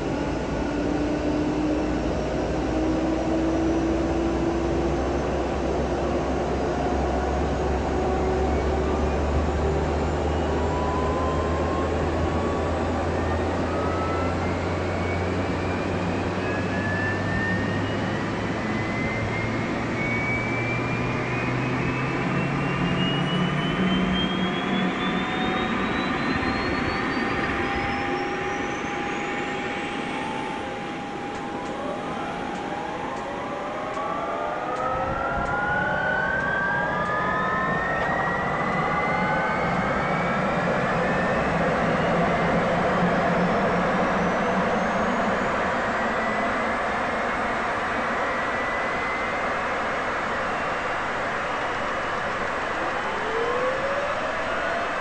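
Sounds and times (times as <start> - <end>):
jet engine turbine whine: 0.0 - 55.0.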